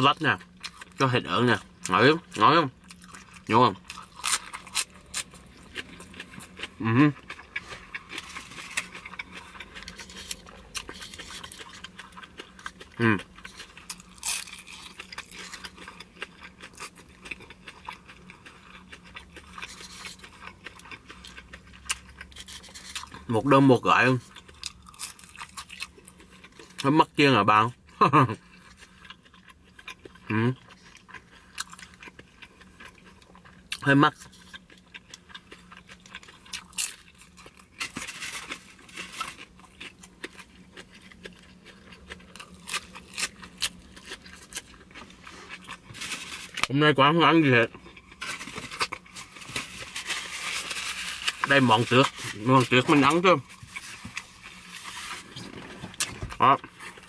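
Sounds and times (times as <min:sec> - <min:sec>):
crunchy chewing: 0:00.0 - 0:26.9, 0:27.7 - 0:57.0
faint low hum: 0:00.0 - 0:57.0.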